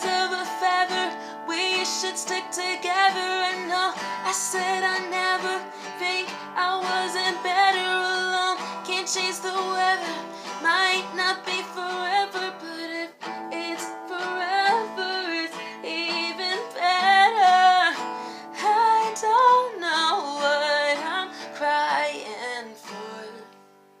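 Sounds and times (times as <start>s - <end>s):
woman singing: 0.0s - 23.6s
acoustic guitar: 0.0s - 24.0s.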